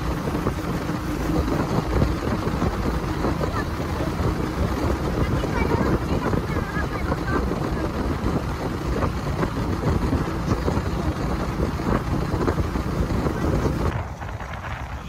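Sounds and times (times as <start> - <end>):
vehicle running noise: 0.0 - 15.0
wind rumbling on microphone: 0.0 - 15.0.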